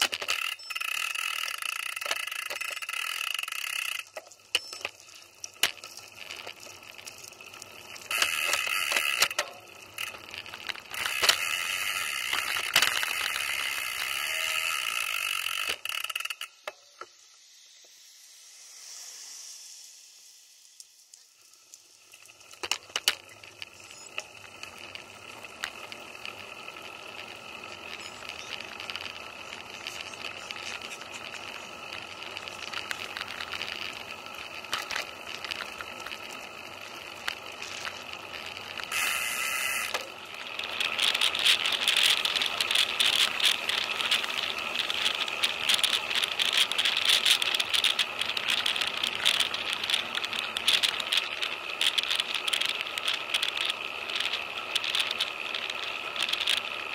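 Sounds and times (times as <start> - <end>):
bicycle and camera mount rattling: 0.0 - 16.9, 22.2 - 56.9
road noise: 1.9 - 56.9.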